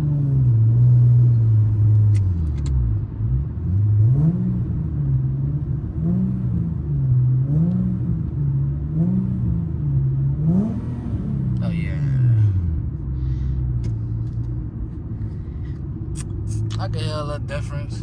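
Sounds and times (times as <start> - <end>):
car engine and exhaust: 0.0 - 18.0.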